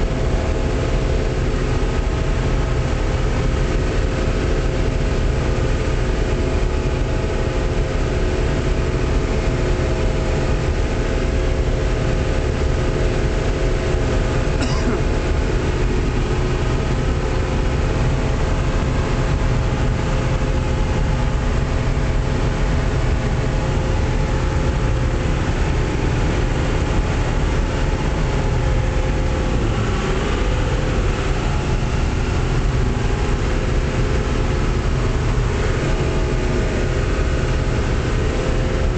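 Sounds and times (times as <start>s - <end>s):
combine diesel engine droning: 0.0s - 38.9s.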